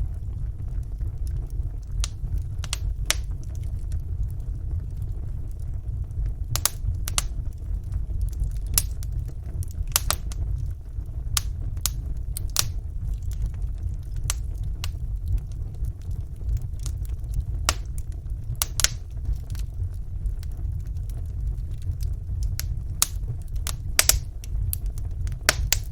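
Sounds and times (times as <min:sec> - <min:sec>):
fire rumbling: 0:00.0 - 0:25.9
logs crackling and popping: 0:00.0 - 0:25.9.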